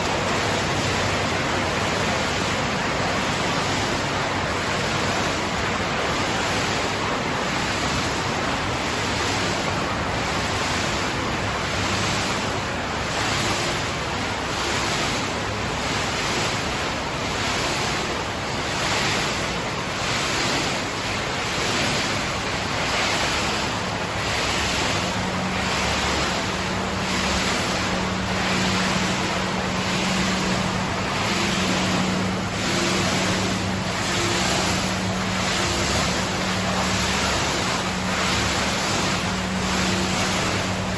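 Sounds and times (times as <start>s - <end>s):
water and machinery churning: 0.0s - 40.9s.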